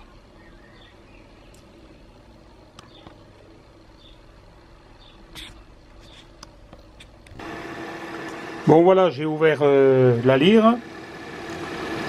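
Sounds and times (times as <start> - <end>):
quiet background hum: 0.0 - 10.8.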